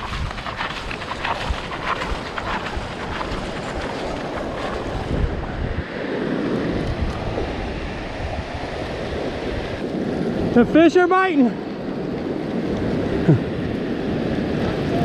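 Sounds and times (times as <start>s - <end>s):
ocean surf washing up beach: 0.0s - 15.0s
wind buffeting microphone: 0.0s - 15.0s.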